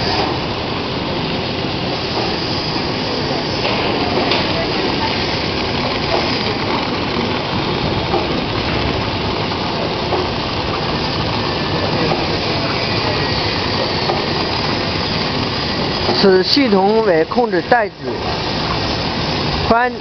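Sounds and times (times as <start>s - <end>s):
bag-forming machine running: 0.0s - 20.0s.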